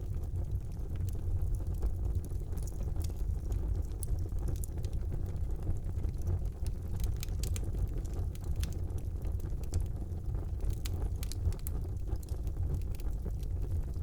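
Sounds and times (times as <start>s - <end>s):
low rumble of flames: 0.0s - 14.0s
logs crackling and popping: 0.1s - 14.0s.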